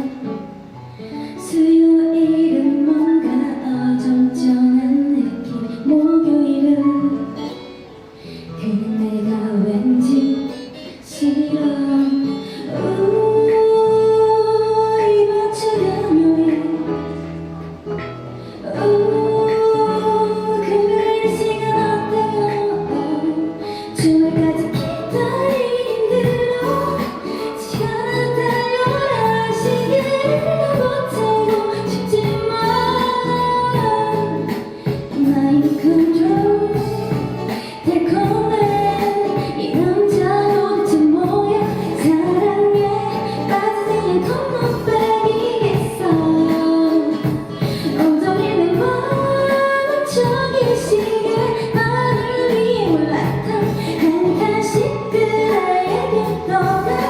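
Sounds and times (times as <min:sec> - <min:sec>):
instrumental accompaniment: 0:00.0 - 0:57.0
woman singing pop song: 0:00.0 - 0:57.0.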